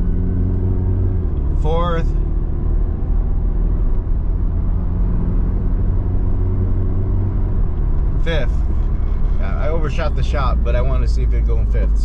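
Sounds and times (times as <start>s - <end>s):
car engine inside cabin: 0.0s - 12.0s
road rumble: 0.0s - 12.0s.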